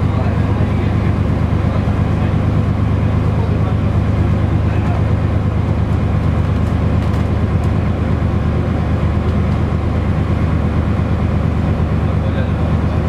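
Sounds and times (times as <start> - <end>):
train engine drone inside cabin: 0.0 - 13.0.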